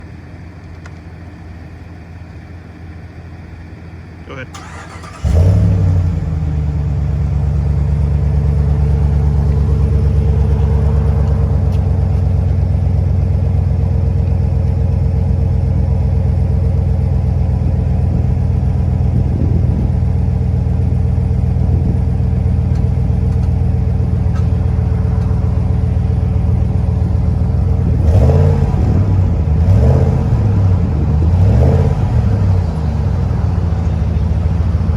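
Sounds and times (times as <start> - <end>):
car engine idling: 0.0 - 34.9
car engine revving: 4.5 - 34.9.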